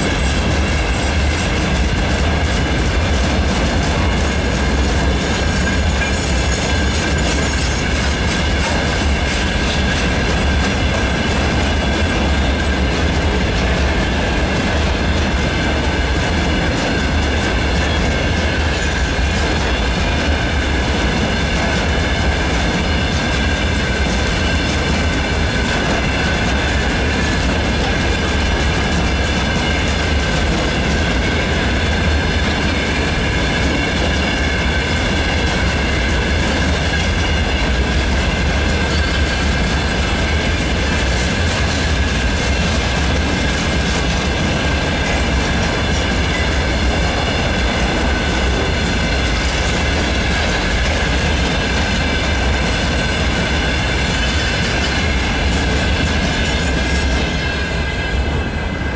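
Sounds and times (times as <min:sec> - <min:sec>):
freight train rumble: 0:00.0 - 0:58.9.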